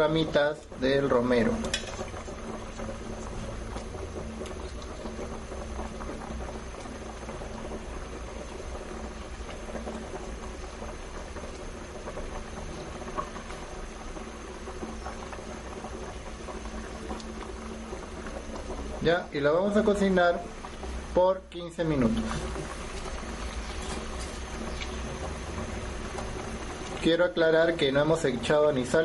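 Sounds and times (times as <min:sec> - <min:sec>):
sauce bubbling in a pan: 0:00.0 - 0:29.0.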